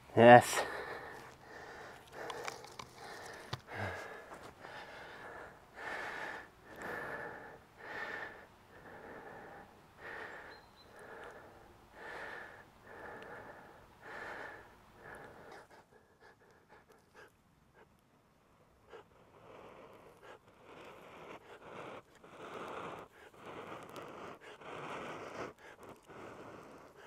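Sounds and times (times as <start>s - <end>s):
man breathing hard: 0.5s - 17.2s, 18.9s - 27.0s.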